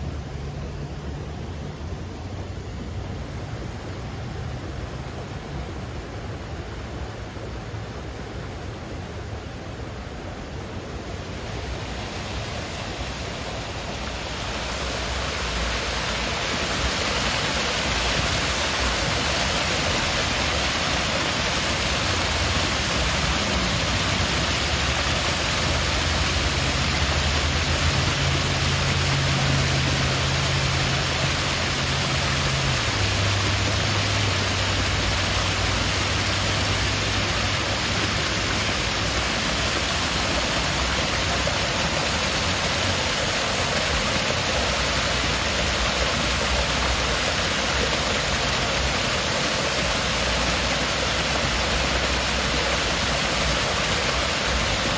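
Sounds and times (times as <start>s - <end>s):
waterfall rushing over rocks: 0.0s - 54.9s.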